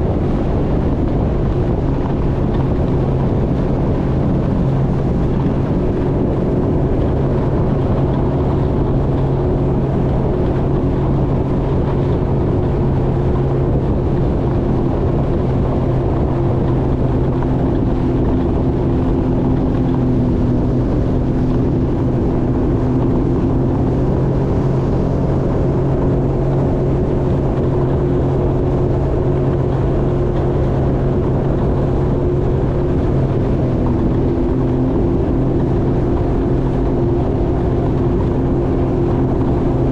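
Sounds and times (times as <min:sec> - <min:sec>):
jet ski engine drone: 0:00.0 - 0:39.9.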